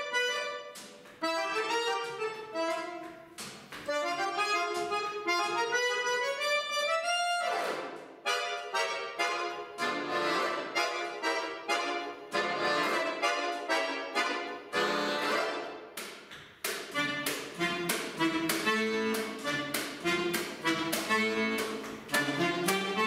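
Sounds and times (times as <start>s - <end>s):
piano accordion chords: 0.0s - 16.0s, 16.9s - 23.0s.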